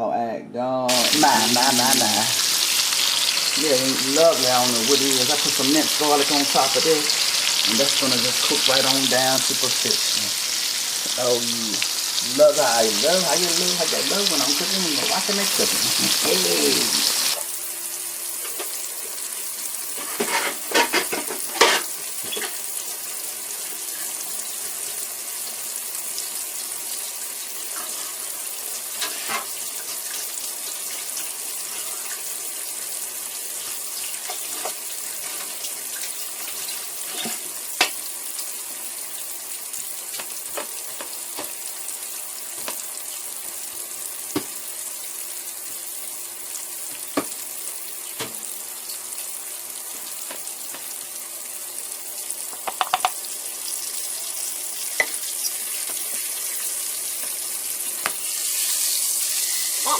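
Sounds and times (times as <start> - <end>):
steak sizzling in a pan: 0.9 - 59.9.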